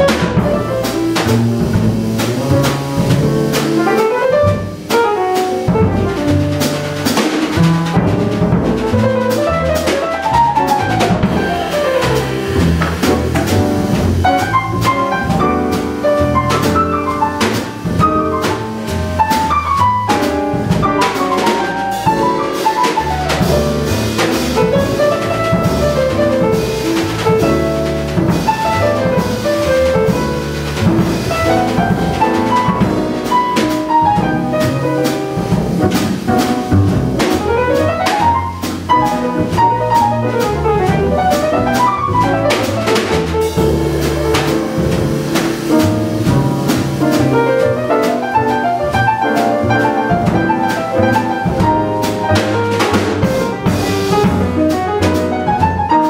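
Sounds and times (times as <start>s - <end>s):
drum kit: 0.0s - 56.0s
jazz piano solo: 0.0s - 56.0s
upright bass: 0.0s - 56.0s.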